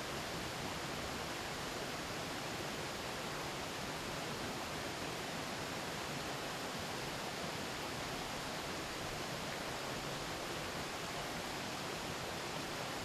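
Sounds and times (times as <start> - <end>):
river flowing over rocks: 0.0 - 13.0.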